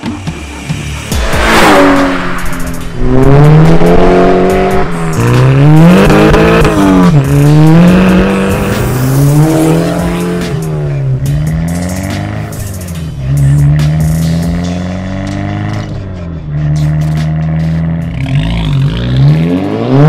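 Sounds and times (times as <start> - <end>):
car engine revving: 0.5 - 20.0.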